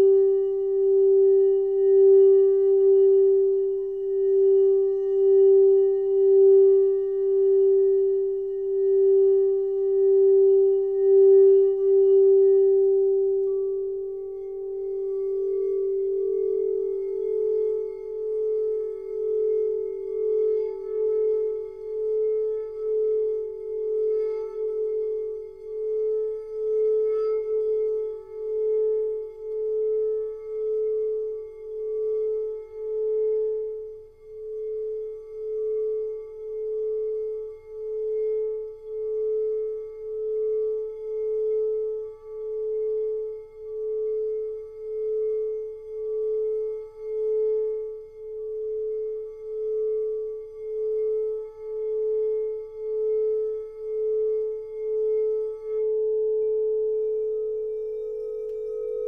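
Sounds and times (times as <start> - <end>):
lower singing bowl tone: 0.0 - 59.0
singing bowl pulsing tone: 0.0 - 59.0.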